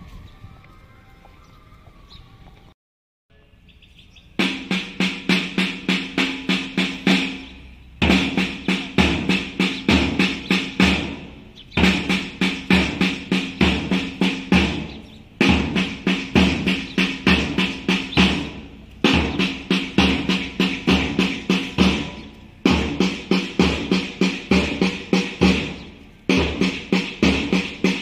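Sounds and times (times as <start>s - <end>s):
side drums march rhythm: 4.4s - 28.0s.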